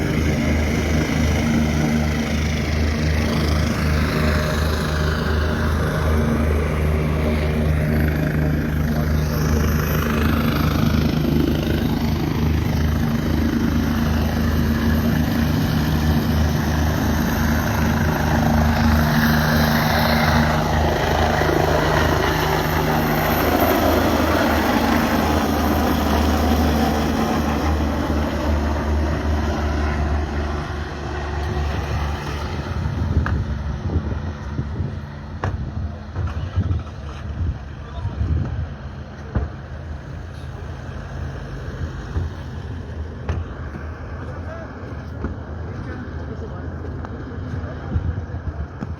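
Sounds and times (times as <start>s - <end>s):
helicopter rotor wash whooshing: 0.0s - 48.9s
helicopter turbine hum: 0.0s - 48.9s.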